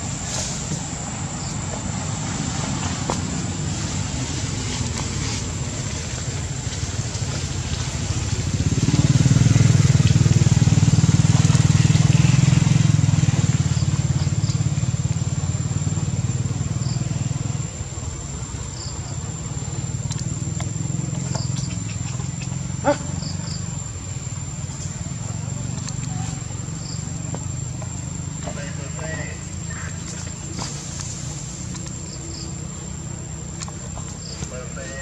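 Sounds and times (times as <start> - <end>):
engine running with low hum: 0.0 - 35.0.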